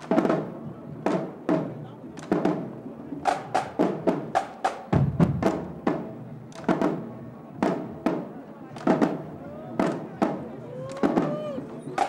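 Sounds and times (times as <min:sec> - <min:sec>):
snare drums: 0:00.0 - 0:12.0.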